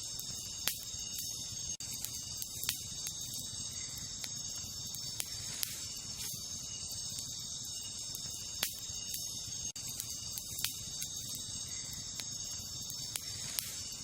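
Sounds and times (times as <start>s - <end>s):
campfire crackling: 0.0s - 14.0s
crickets chirping: 0.0s - 14.0s
fire popping: 0.0s - 14.0s.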